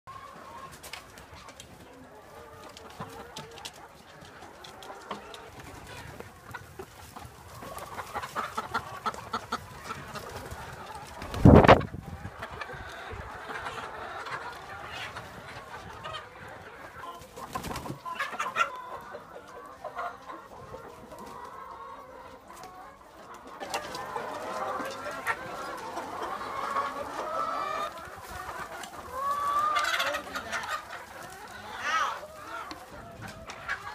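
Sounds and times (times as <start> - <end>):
hens clucking: 0.1 - 33.9.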